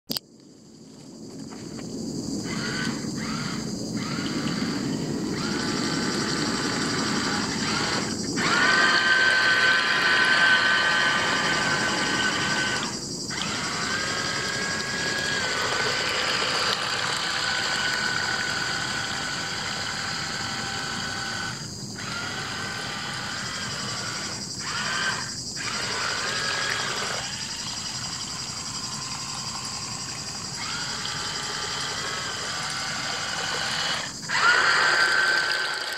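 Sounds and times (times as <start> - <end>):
toy boat electric motor whining: 2.4 - 35.9.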